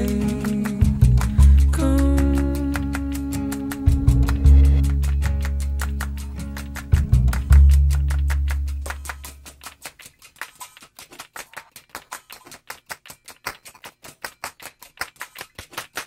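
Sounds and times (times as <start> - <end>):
rapid even clicking: 0.0 - 16.0.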